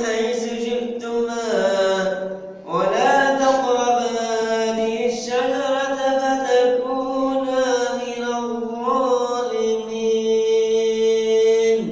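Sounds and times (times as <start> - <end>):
man chanting melodically: 0.0 - 11.9.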